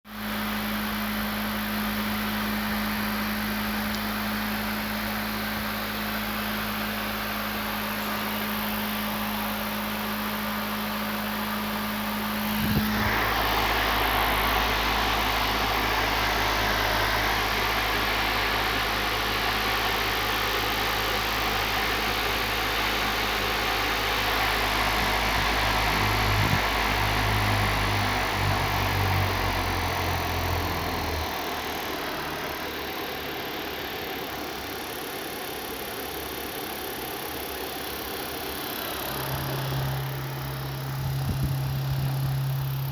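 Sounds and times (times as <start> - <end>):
drone rotor motor humming: 0.1 - 42.9.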